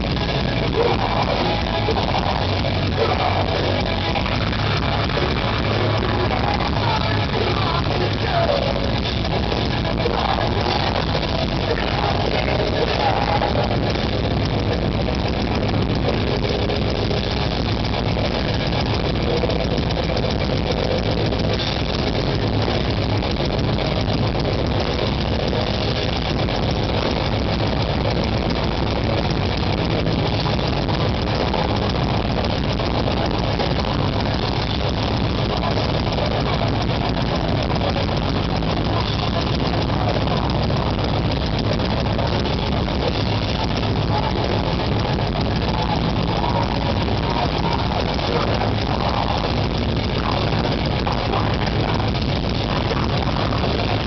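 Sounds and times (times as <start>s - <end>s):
bass: 0.0s - 54.0s
distorted guitars: 0.0s - 54.0s
drums: 0.0s - 54.0s.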